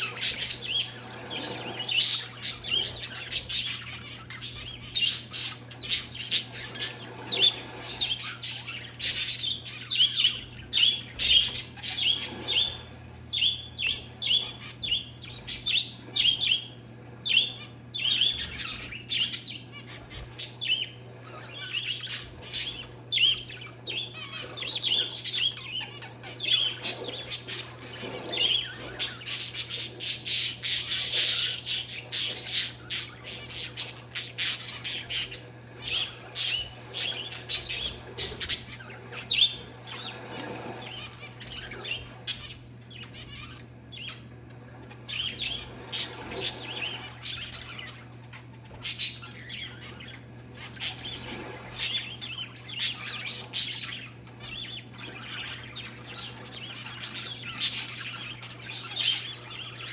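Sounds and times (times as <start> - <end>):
birds chirping and squawking: 0.0 - 59.9.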